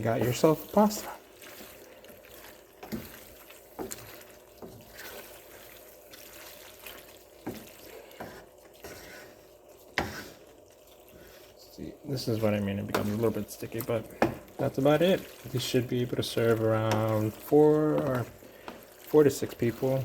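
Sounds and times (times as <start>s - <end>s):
utensil stirring sticky pasta: 0.0s - 20.0s.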